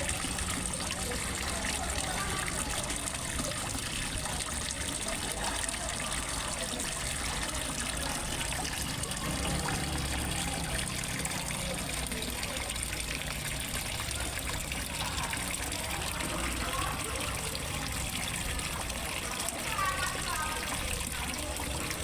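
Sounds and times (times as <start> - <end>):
pond water trickling: 0.0 - 22.0.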